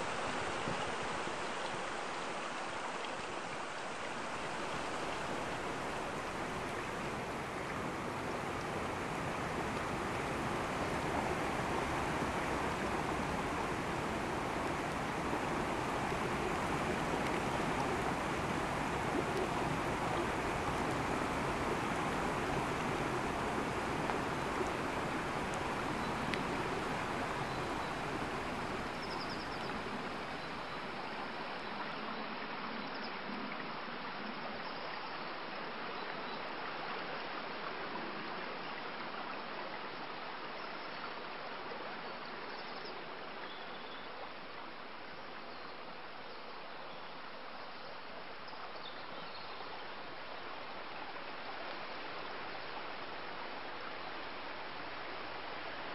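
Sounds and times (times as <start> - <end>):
stream running: 0.0 - 55.9.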